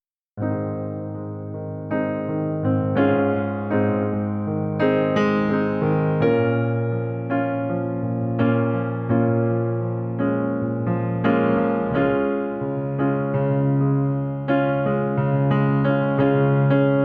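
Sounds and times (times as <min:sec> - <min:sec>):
slow piano music: 0:00.4 - 0:17.0.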